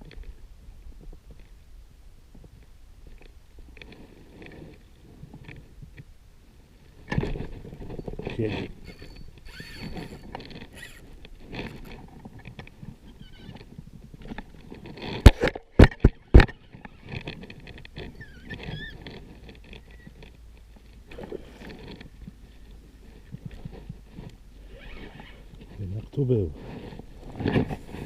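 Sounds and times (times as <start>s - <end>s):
faint rustling: 0.0s - 28.0s.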